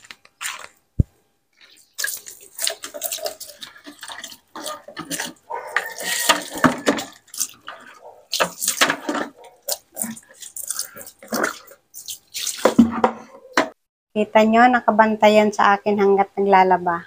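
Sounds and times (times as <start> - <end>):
water sloshing and splashing: 0.0 - 13.8.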